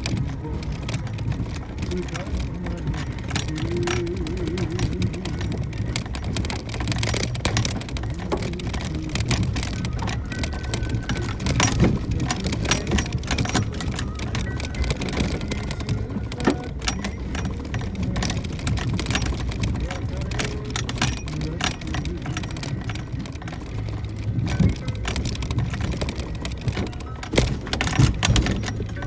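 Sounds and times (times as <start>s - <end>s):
loud vehicle bumps: 0.0s - 29.0s
vehicle knocks and rattles: 0.0s - 29.0s.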